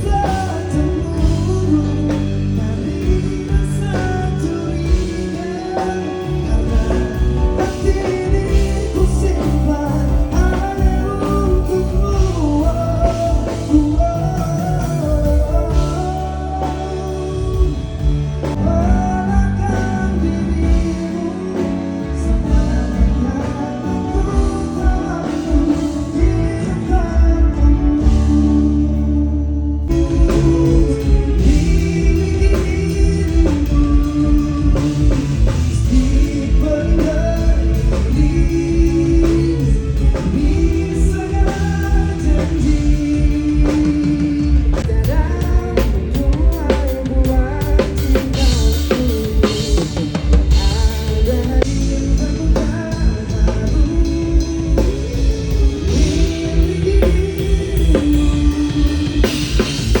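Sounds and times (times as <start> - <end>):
live rock band playing: 0.0 - 60.0.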